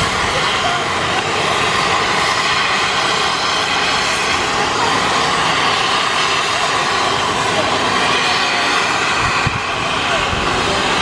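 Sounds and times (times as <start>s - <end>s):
helicopter turbine whine: 0.0s - 11.0s.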